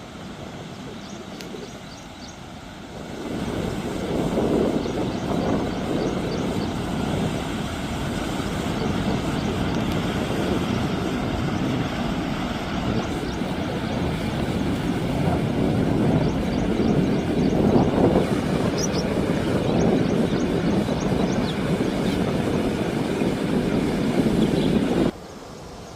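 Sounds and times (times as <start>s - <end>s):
floodwater rushing: 0.0s - 25.5s.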